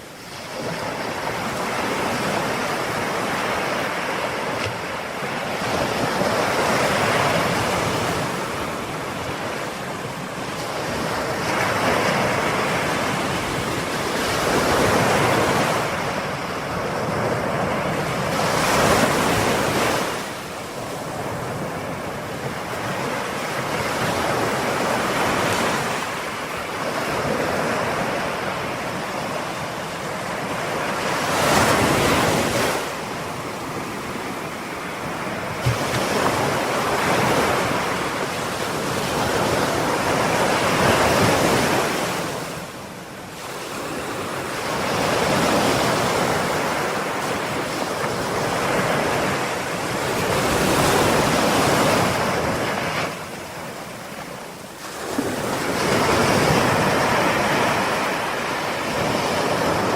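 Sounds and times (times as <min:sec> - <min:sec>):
ocean waves breaking on shore: 0:00.0 - 0:59.9
wind on microphone: 0:00.0 - 0:59.9.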